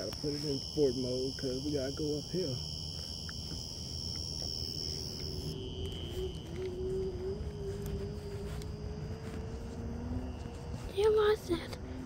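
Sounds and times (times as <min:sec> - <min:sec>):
crickets chirping: 0:00.0 - 0:12.0
electric scooter motor whining: 0:00.0 - 0:12.0.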